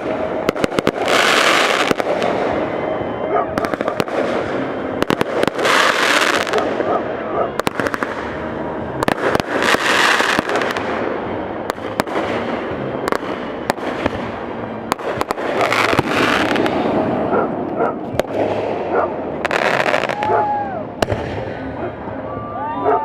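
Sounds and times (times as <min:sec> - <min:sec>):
fireworks bangs and crackles: 0:00.0 - 0:22.2
continuous rumble: 0:00.0 - 0:23.0.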